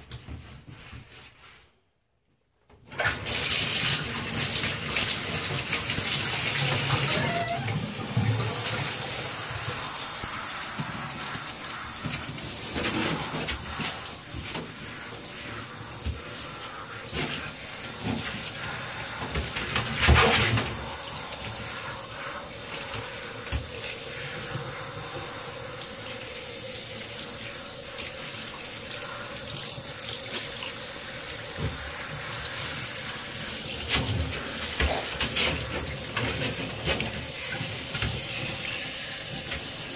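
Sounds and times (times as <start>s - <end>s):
shower spray into bathtub: 2.9s - 39.9s.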